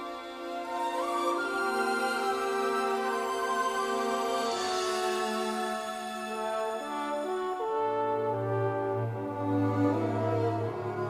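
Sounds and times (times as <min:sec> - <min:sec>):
slow sad instrumental music: 0:00.0 - 0:11.0.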